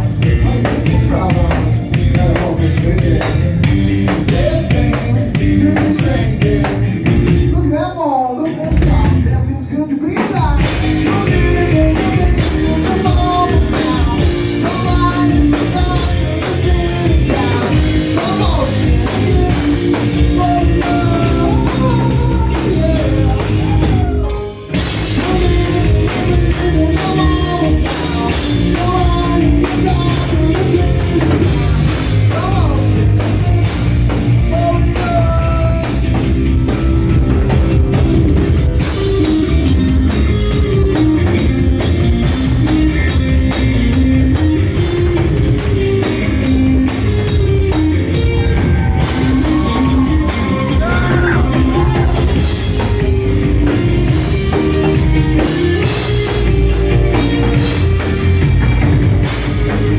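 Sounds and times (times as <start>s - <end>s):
person singing: 0.0s - 37.6s, 46.3s - 57.8s
drum kit: 0.0s - 59.9s
guitar: 0.0s - 59.9s.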